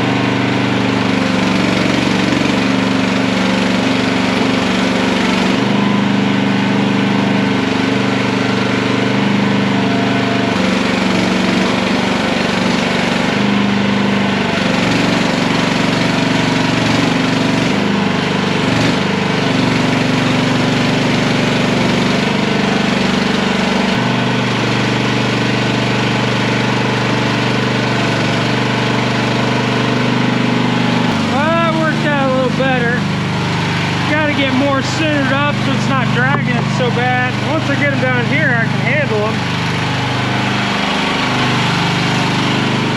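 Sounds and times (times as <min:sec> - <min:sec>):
skid steer engine running: 0:00.0 - 0:42.9.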